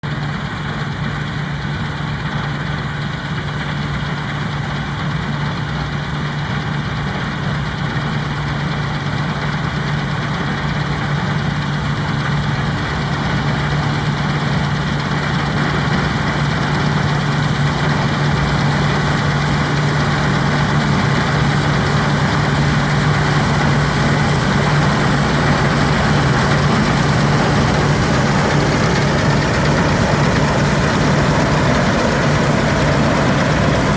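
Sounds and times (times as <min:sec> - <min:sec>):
combine harvester engine running: 0:00.0 - 0:33.9.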